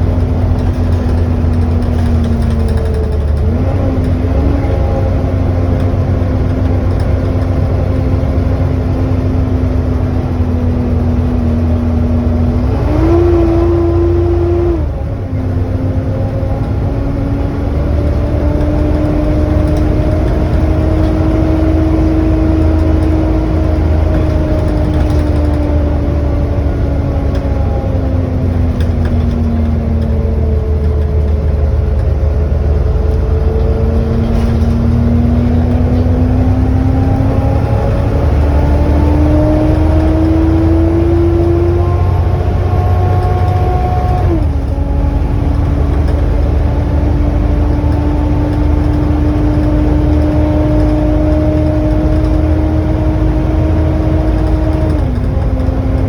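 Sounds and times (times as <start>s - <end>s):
bus engine whine: 0.0s - 56.0s
low engine rumble: 0.0s - 56.0s.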